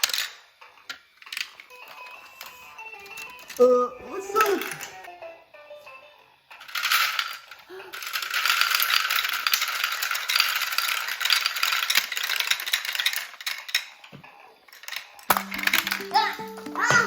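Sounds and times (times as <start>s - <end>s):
plastic marbles rattling down track: 0.0s - 3.7s, 6.5s - 16.9s.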